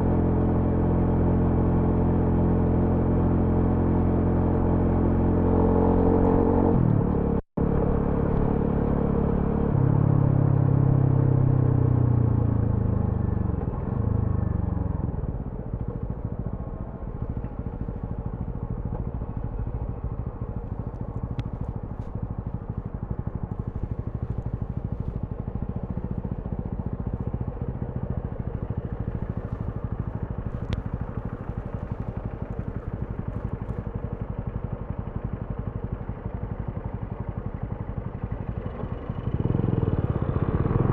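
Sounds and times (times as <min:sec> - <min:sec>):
motorcycle engine revving: 0:00.0 - 0:35.4, 0:38.3 - 0:40.9
motorcycle engine low-rev running: 0:00.0 - 0:40.9.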